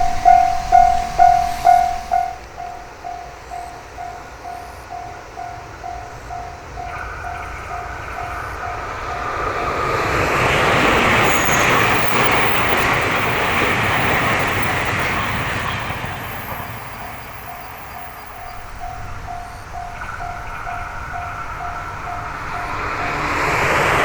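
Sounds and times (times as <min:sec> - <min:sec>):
crossing warning bell dinging: 0:00.0 - 0:24.0
train passing: 0:00.0 - 0:24.0.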